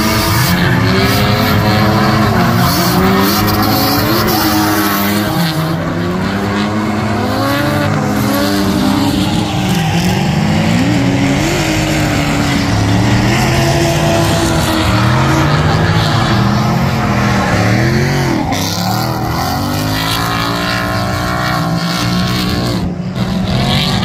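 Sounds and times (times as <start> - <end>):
car engines revving hard: 0.0 - 24.0
tires squealing: 0.0 - 24.0.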